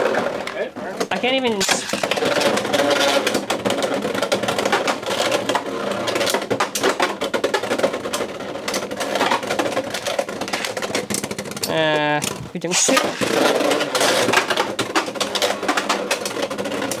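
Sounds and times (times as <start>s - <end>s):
tops clicking and knocking: 0.0s - 17.0s
spinning tops whirring: 1.6s - 17.0s.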